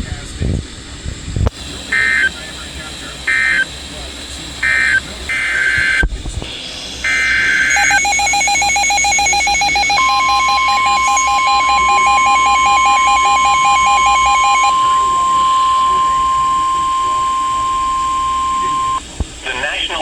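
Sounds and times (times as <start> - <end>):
screeching digital header bursts: 1.5 - 19.0
steady one-pitch alarm tone: 1.5 - 19.0
fast-pulsing electronic alert tone: 1.9 - 19.0.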